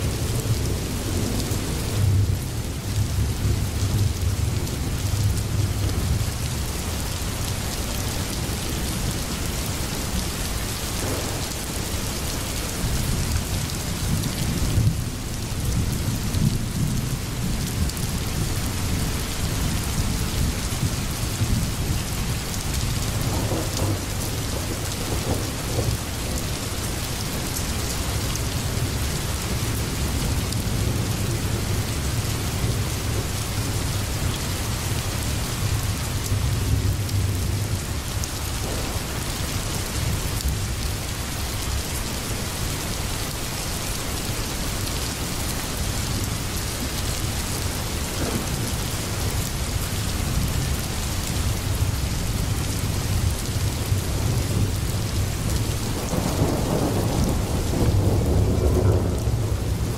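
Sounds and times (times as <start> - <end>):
low rumble of thunder: 0.0 - 42.4, 45.8 - 59.9
steady rain: 0.0 - 59.9.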